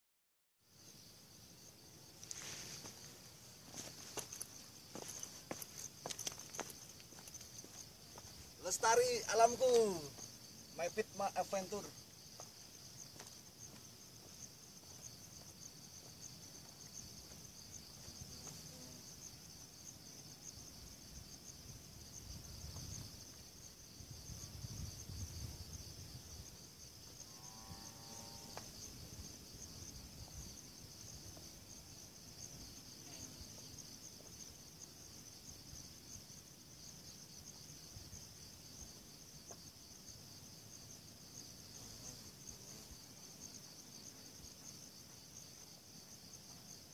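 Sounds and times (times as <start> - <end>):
insects chirring: 0.7 - 46.9.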